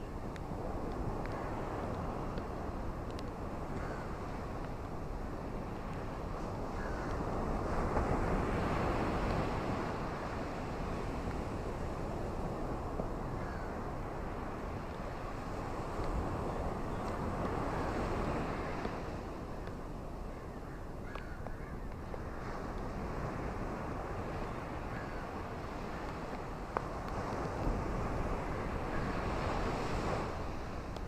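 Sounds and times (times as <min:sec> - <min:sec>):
ocean waves on beach: 0:00.0 - 0:31.0.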